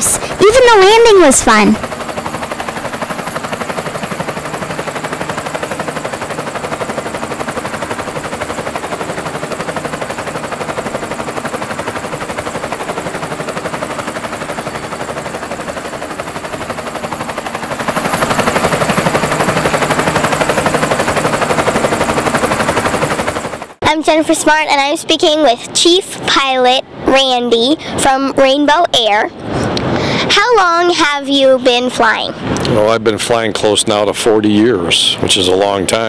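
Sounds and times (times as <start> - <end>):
helicopter rotor blades chopping: 0.0 - 36.0.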